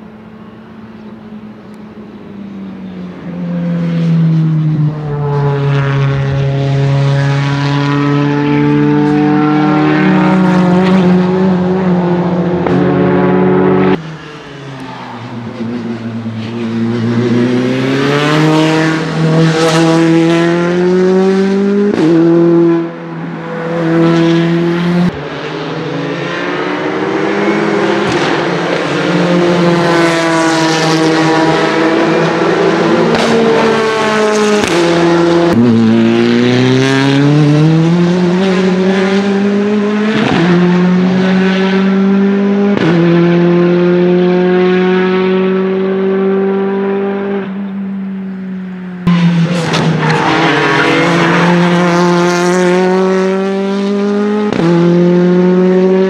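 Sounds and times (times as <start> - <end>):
race cars passing at speed: 0.0 - 56.0.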